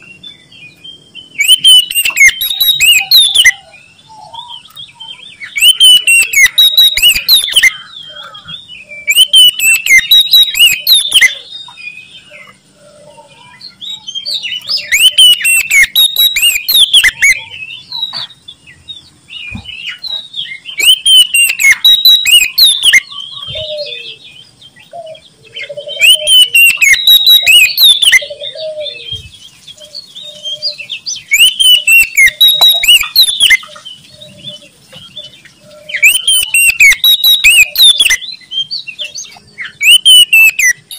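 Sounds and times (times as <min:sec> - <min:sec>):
magpie-robin singing: 0:00.0 - 0:40.9
soft bird calls: 0:00.0 - 0:40.9.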